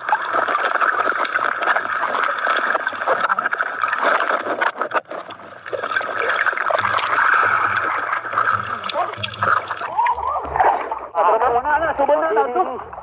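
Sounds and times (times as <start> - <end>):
muffled underwater sloshing: 0.0 - 13.0.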